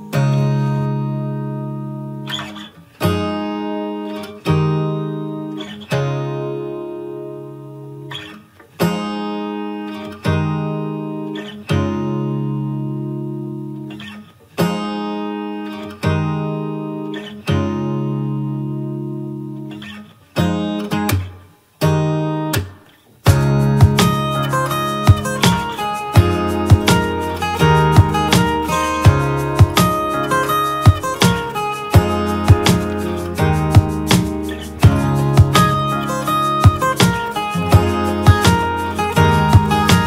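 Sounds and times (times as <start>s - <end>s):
guitar strumming chords: 0.0s - 40.0s.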